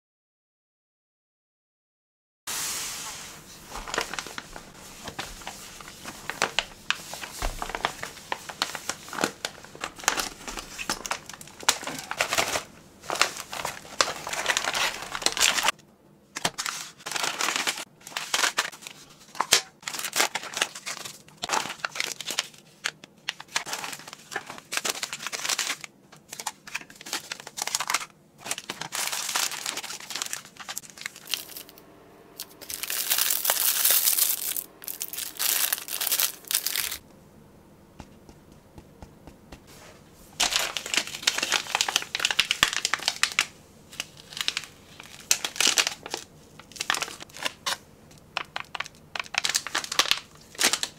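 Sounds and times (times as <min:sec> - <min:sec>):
plastic pouches crinkling: 0:03.7 - 0:15.8, 0:16.4 - 0:31.7, 0:32.4 - 0:37.0, 0:40.3 - 0:50.9.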